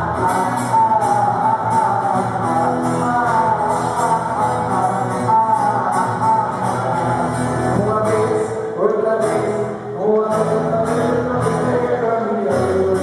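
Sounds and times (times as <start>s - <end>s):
person singing: 0.0s - 13.0s
strummed guitar: 0.0s - 13.0s.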